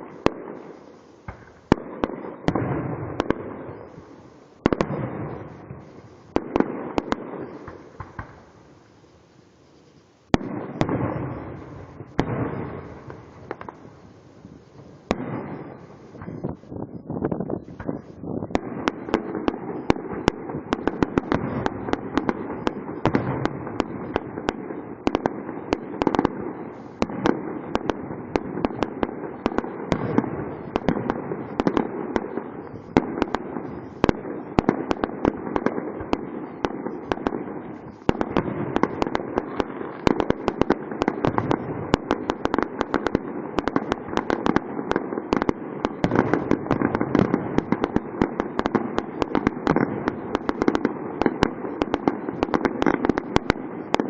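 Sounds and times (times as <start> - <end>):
fireworks popping: 0.0 - 54.0.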